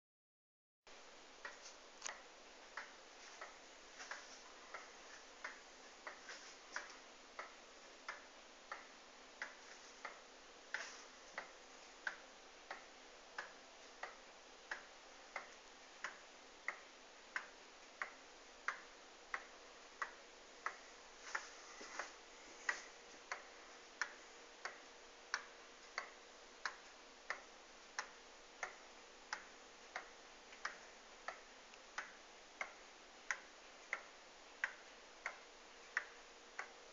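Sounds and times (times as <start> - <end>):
pendulum clock ticking: 1.3 - 36.9.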